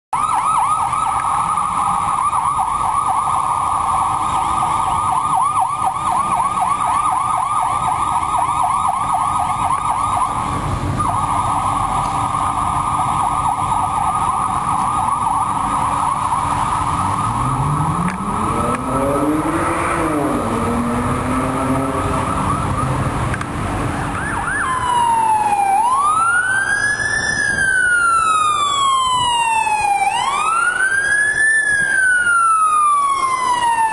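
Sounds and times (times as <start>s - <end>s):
emergency siren: 0.1s - 33.9s
lower siren tone: 0.1s - 33.9s.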